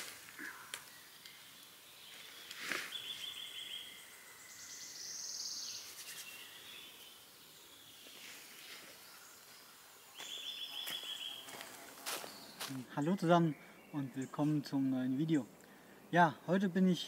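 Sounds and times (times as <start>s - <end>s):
songbird trills: 0.4s - 16.2s.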